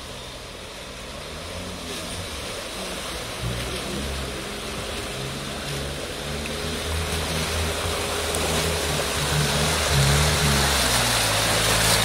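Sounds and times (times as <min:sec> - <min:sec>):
off-road engine revving in mud: 0:00.0 - 0:12.0
tyres churning mud: 0:00.0 - 0:12.0.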